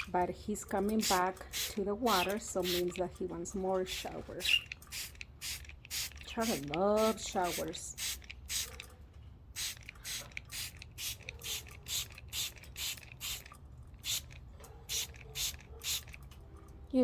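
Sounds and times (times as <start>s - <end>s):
spray bottle hissing sprays: 0.9s - 3.0s, 3.8s - 8.8s, 9.6s - 16.2s.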